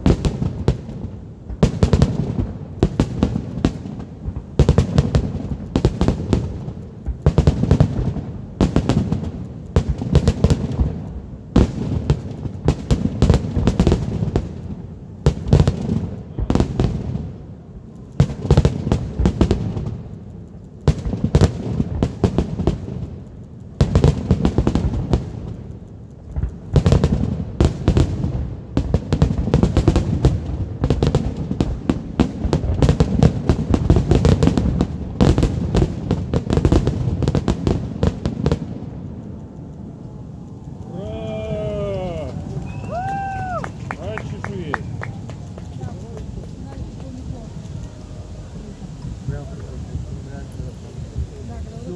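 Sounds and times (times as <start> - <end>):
fireworks bangs and crackles: 0.0 - 51.9.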